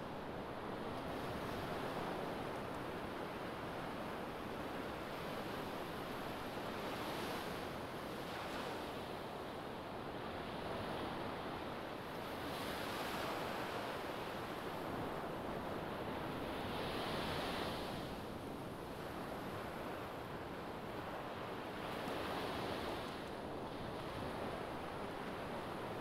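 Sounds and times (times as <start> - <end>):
ocean waves breaking on beach: 0.3 - 26.0.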